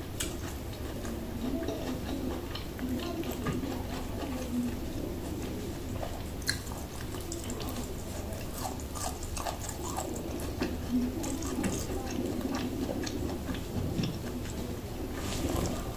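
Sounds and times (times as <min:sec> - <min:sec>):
food being chewed: 0:00.0 - 0:15.9.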